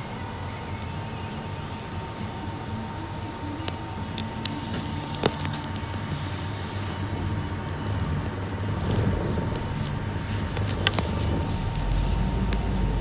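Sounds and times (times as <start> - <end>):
bus engine hum: 0.0 - 13.0
faint steady whine: 0.0 - 13.0
road noise: 0.0 - 13.0.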